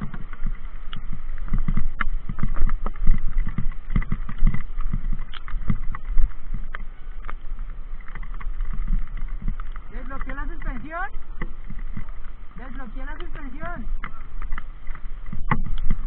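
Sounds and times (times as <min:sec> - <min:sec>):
bike knocks and rattles: 0:00.0 - 0:16.0
wind rumble on microphone: 0:00.0 - 0:16.0.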